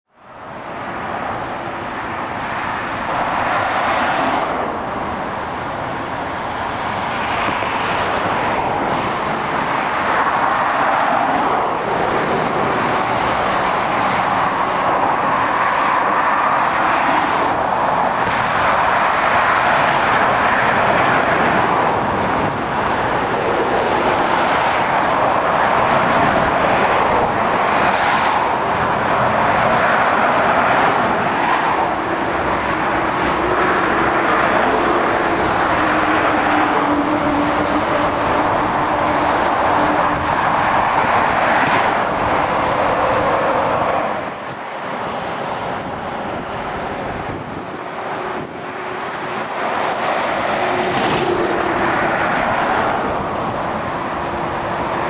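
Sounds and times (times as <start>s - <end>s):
traffic driving past: 0.1s - 55.0s.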